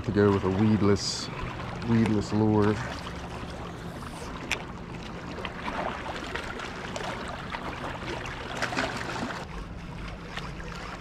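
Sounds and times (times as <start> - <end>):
faint low rumble: 0.0 - 11.0
water lapping on rocks: 0.0 - 11.0.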